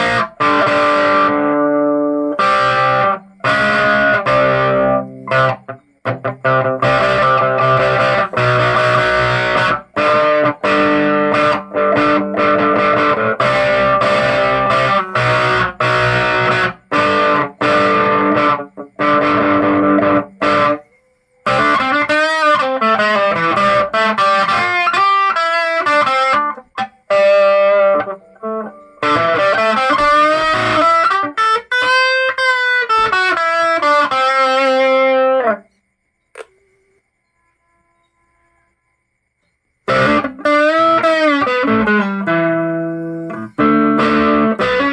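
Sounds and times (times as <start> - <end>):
distorted electric guitar: 0.0 - 20.8, 21.4 - 35.7, 39.8 - 44.9.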